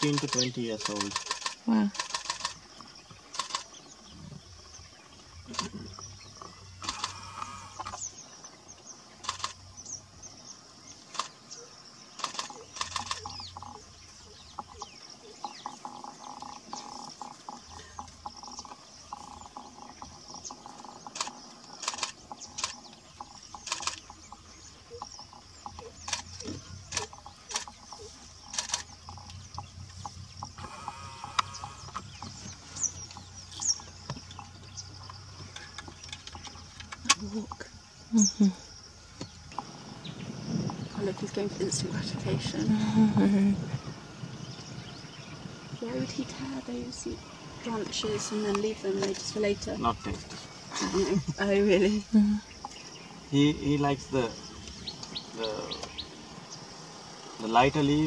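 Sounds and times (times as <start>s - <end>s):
bird calls: 0.0s - 58.0s.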